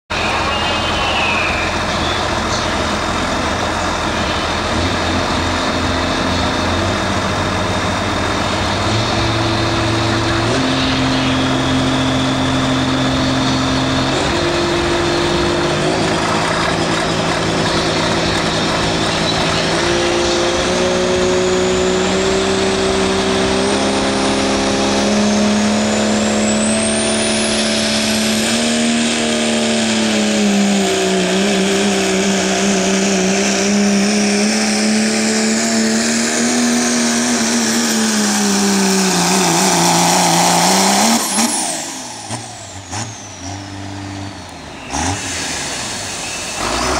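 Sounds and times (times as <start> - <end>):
truck engine at full throttle: 0.0 - 46.9.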